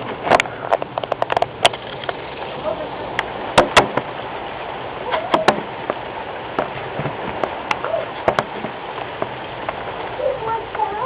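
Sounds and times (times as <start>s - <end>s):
rain hissing: 0.0s - 11.0s
raindrops tapping hard surface: 0.0s - 11.0s.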